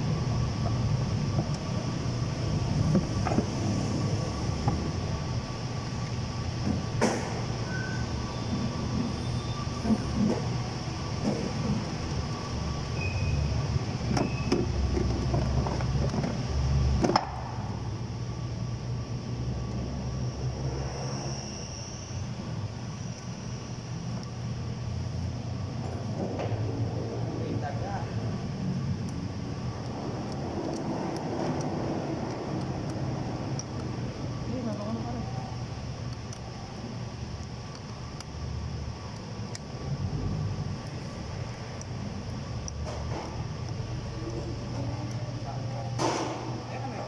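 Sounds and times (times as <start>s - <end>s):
steady low rumble: 0.0s - 21.0s, 22.2s - 47.0s
low machine hum: 0.0s - 47.0s.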